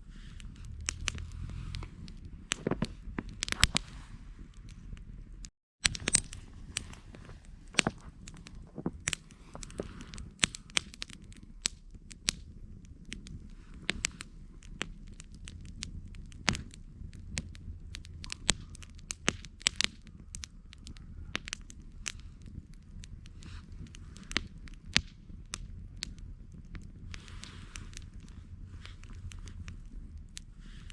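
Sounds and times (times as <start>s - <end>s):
campfire crackling and popping: 0.0s - 30.9s
low steady rumble: 0.0s - 30.9s.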